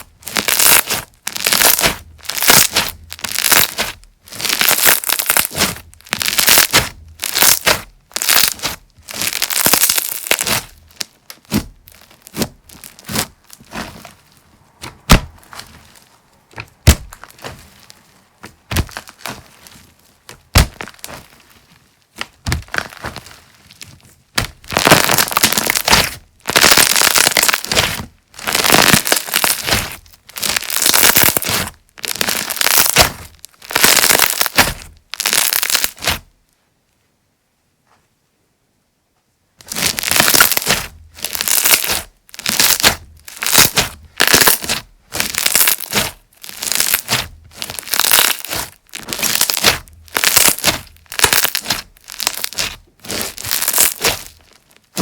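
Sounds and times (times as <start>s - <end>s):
slime crackling and popping: 0.0s - 36.3s, 39.6s - 55.0s.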